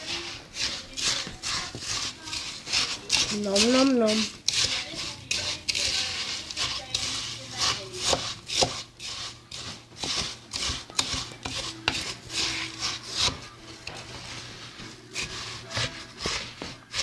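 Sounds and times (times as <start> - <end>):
utensil scraping food: 0.0 - 17.0.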